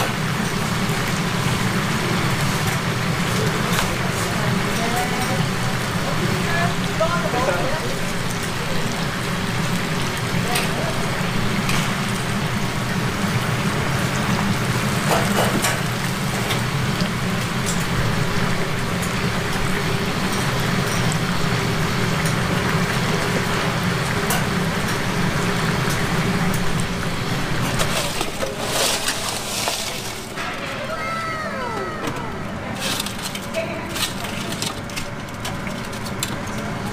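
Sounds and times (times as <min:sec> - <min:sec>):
chicken deep-frying in oil: 0:00.0 - 0:36.9.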